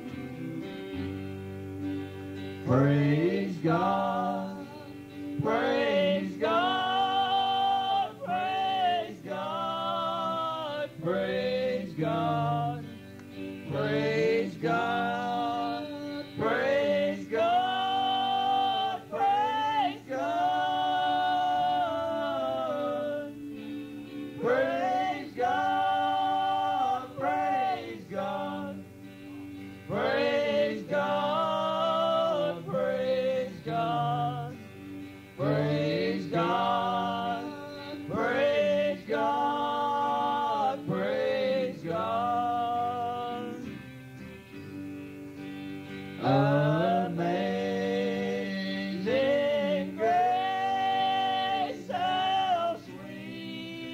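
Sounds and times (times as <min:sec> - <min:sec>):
person singing: 0:02.6 - 0:34.8, 0:35.4 - 0:43.9, 0:46.2 - 0:53.9.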